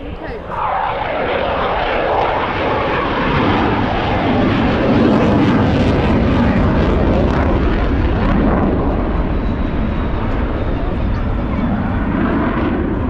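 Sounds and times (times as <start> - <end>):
aircraft engine flying past: 0.0 - 13.0.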